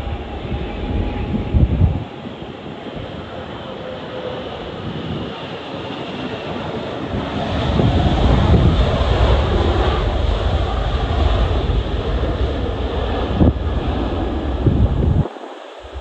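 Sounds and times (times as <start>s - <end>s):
jet engines rumbling: 0.0s - 16.0s
wind buffeting microphone: 0.0s - 16.0s.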